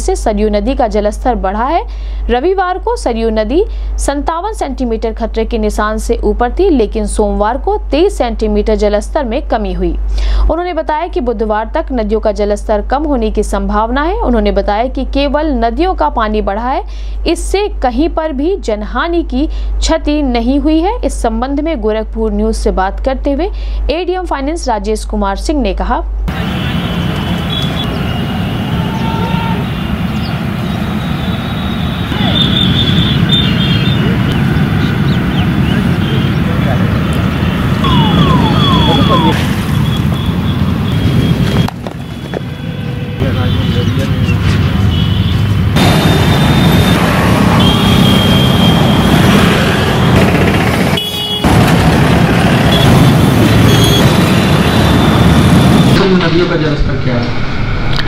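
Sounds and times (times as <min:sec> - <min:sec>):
low traffic rumble: 0:00.0 - 0:58.0.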